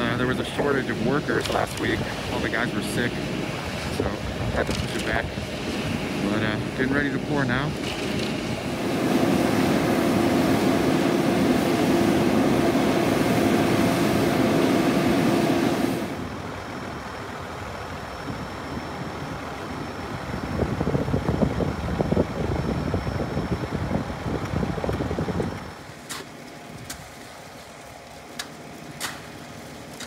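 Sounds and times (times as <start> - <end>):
concrete mixer truck engine: 0.0 - 30.0.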